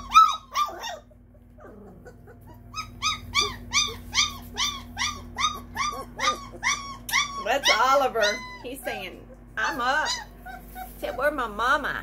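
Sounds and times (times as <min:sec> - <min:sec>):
puppy crying: 0:00.0 - 0:11.5.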